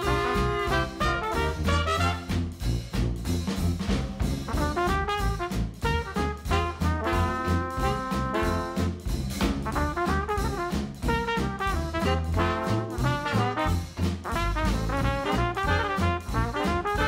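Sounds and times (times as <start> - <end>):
upbeat swing jazz with brass: 0.0 - 17.0.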